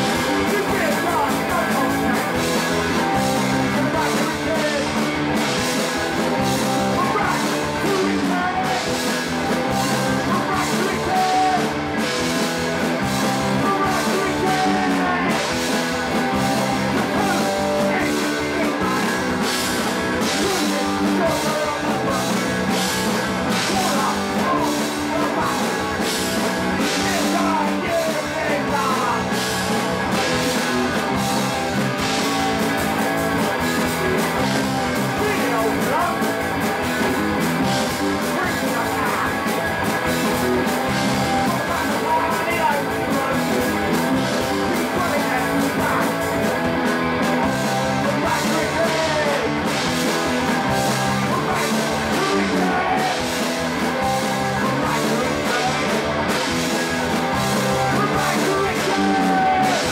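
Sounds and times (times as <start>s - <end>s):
bass guitar: 0.0s - 59.9s
drums: 0.0s - 59.9s
electric guitar: 0.0s - 59.9s
person singing: 0.0s - 59.9s.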